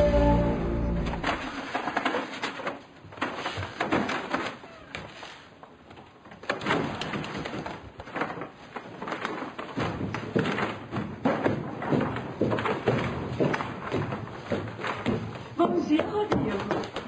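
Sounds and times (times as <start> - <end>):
paper bags rustling: 1.0 - 15.1.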